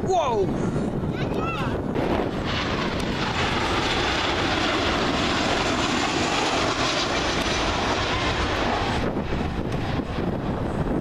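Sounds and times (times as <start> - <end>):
jet airliner passing low: 0.0 - 11.0.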